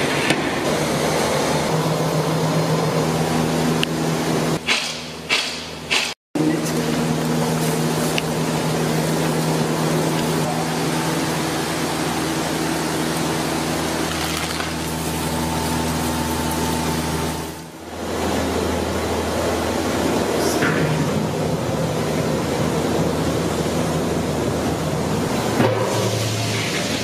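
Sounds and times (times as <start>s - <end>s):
gas burner rushing: 0.0s - 27.0s.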